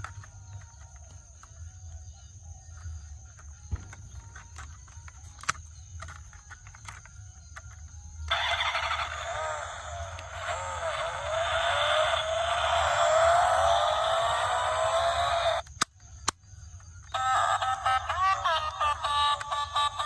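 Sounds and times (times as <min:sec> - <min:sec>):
toy vehicle electronic sound effect: 0:00.0 - 0:20.0.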